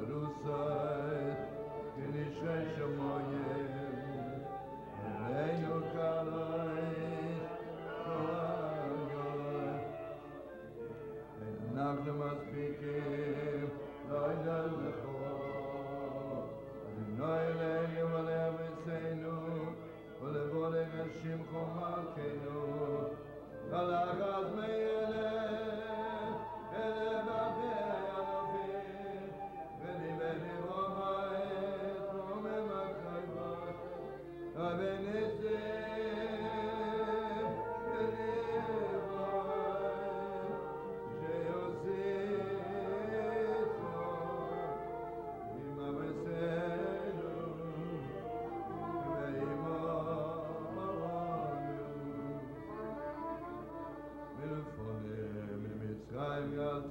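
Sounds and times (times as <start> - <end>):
man singing: 0.0 - 56.9.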